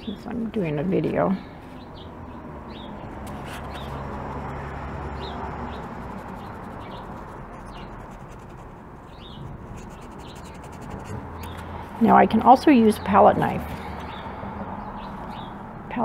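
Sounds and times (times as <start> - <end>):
small birds chirping: 0.0 - 16.0
steady background noise: 0.0 - 16.0.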